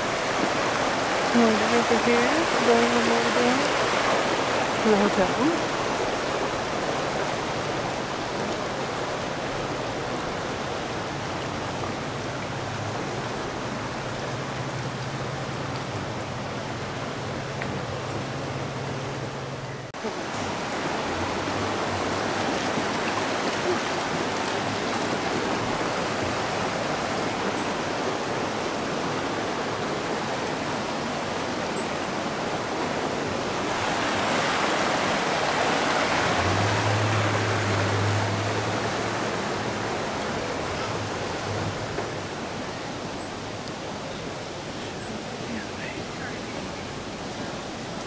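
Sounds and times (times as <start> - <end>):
river water rushing over rocks: 0.0 - 48.0.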